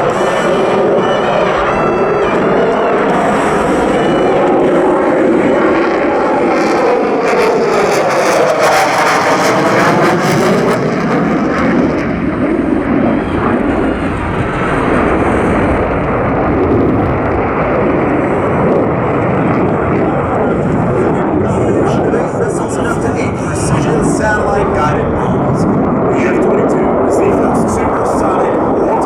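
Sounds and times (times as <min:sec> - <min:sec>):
jet engines roaring past: 0:00.0 - 0:29.0.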